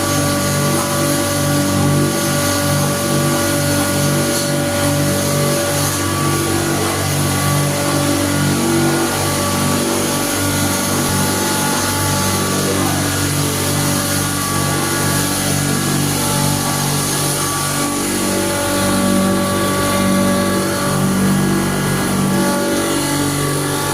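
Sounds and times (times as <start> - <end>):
electric grinder motor: 0.0 - 23.9.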